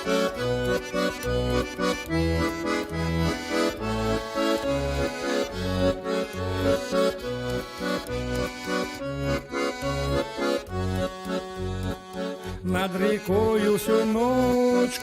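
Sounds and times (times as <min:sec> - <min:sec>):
accordion-led folk band playing: 0:00.0 - 0:15.0.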